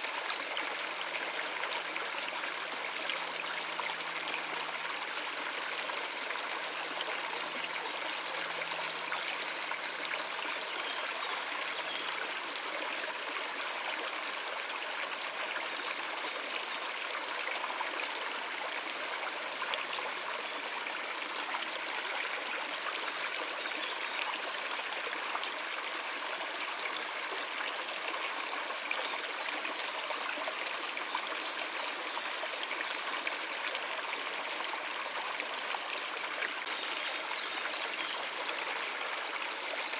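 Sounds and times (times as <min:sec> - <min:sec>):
stream over rocks: 0:00.0 - 0:39.9.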